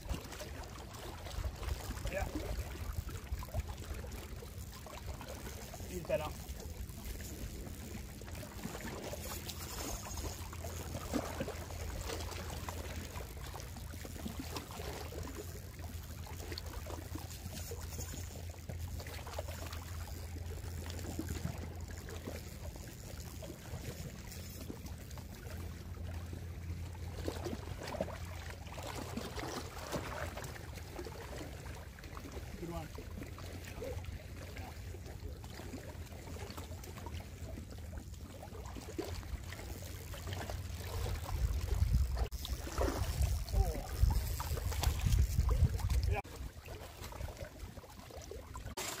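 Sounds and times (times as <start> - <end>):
low steady rumble: 0.0 - 48.8
small splashes: 0.0 - 49.0
water sloshing around legs: 0.0 - 49.0.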